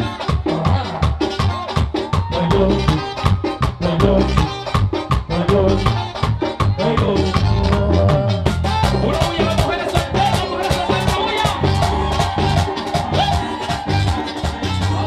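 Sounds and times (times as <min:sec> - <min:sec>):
live band playing bachata: 0:00.0 - 0:15.0.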